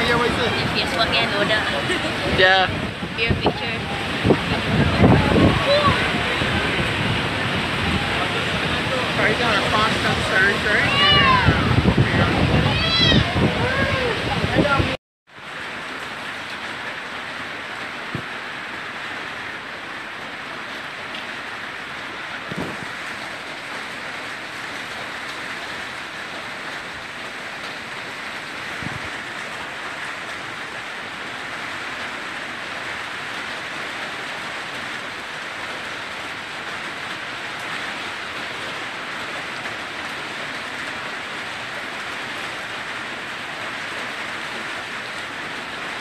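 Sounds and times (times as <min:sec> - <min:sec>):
heavy wind-driven rain: 0:00.0 - 0:46.0.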